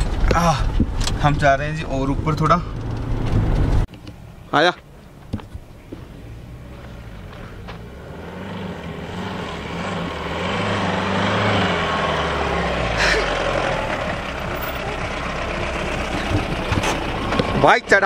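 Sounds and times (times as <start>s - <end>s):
diesel engine pulling uphill: 0.0s - 18.0s
tyres on gravel: 0.0s - 18.0s.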